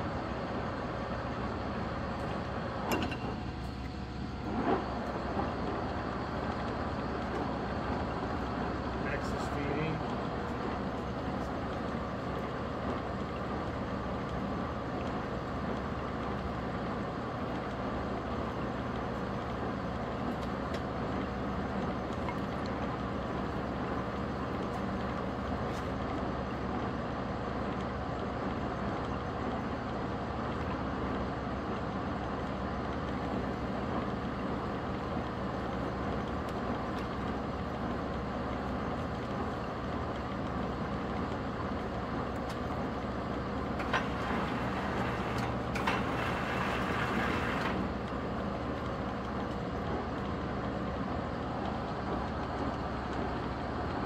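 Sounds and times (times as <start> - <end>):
lathe machine hum: 0.0 - 54.0.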